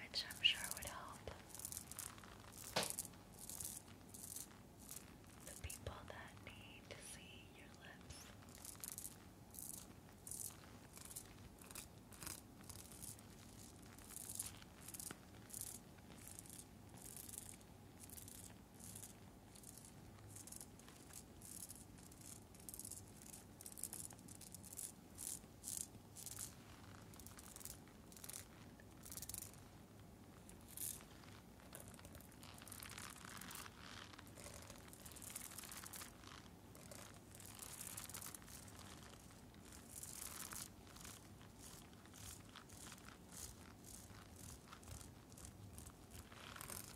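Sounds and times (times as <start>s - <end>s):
soft scratching on a face mask: 0.0s - 46.9s.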